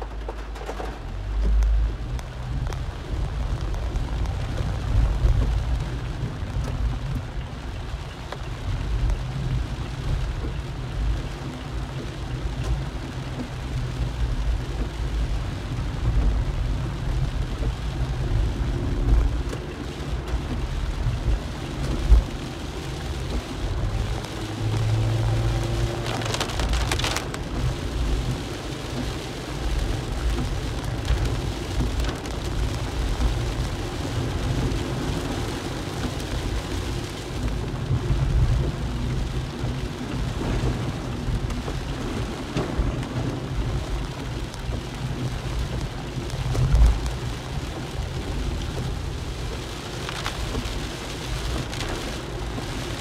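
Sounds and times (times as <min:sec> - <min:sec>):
car engine rumble: 0:00.0 - 0:53.0
rain on a car: 0:00.0 - 0:53.0
tyres on wet road: 0:00.0 - 0:53.0.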